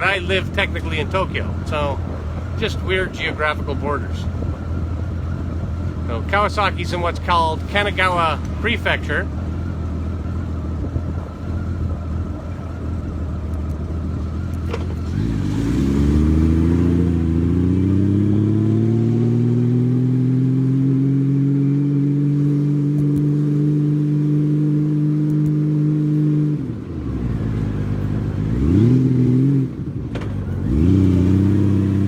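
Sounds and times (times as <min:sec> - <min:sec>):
motorcycle engine accelerating: 0:00.0 - 0:32.0
wind and road noise: 0:00.0 - 0:32.0.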